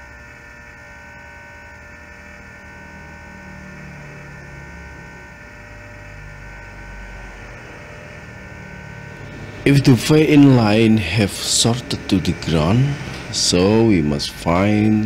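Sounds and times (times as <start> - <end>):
electrical hum of equipment: 0.0 - 15.0
high whining tones: 0.0 - 15.0.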